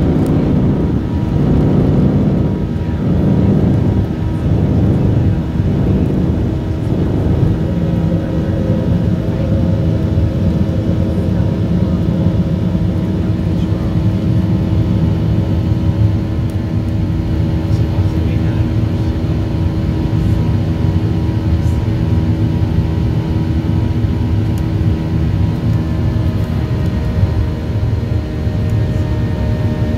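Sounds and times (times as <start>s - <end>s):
jet engines rumbling: 0.0s - 29.9s
steady droning tones: 0.0s - 29.9s.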